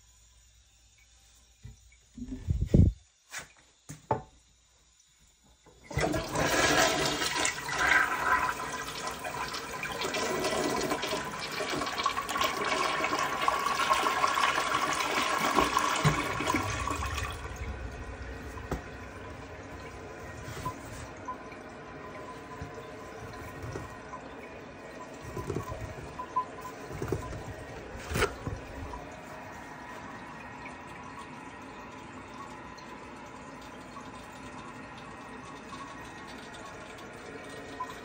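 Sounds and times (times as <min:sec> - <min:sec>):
toilet flushing: 0:05.4 - 0:38.0.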